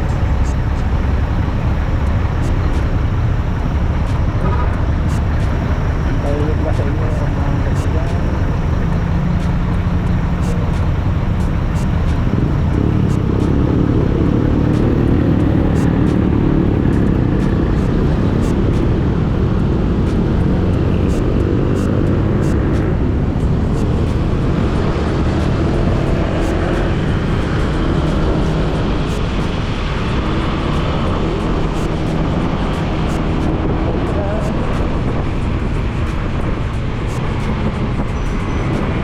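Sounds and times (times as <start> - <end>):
wind and road noise: 0.0 - 39.0.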